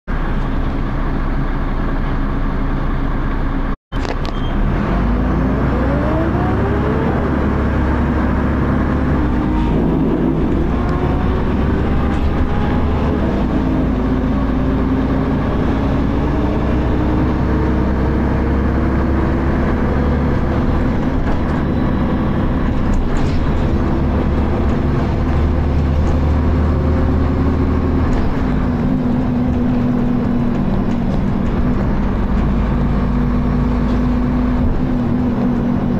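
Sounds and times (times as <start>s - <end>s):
bus diesel engine accelerating: 0.1s - 35.9s.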